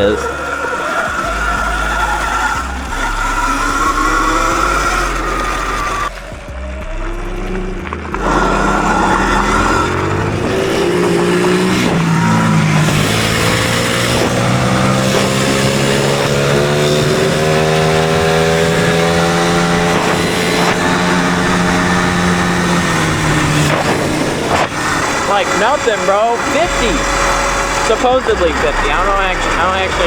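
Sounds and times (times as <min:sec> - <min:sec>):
electric motor whine: 0:00.0 - 0:30.0.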